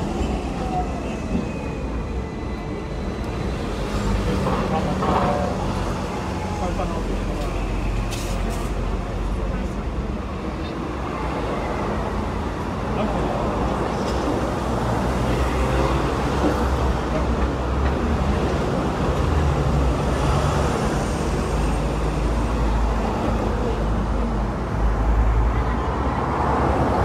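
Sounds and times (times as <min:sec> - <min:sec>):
road traffic noise: 0:00.0 - 0:27.0
tram rumbling: 0:00.0 - 0:27.0.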